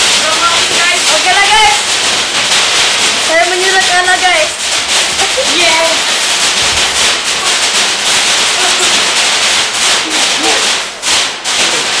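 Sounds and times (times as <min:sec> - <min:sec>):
firecrackers crackling: 0:00.0 - 0:12.0.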